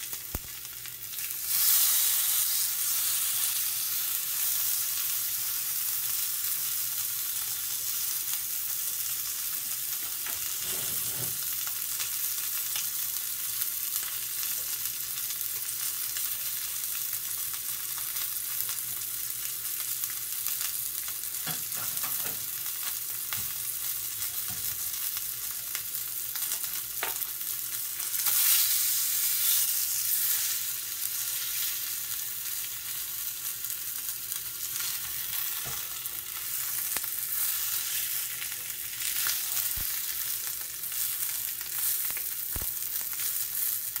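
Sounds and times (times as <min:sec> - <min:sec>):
steak sizzling in a skillet: 0:00.0 - 0:44.0.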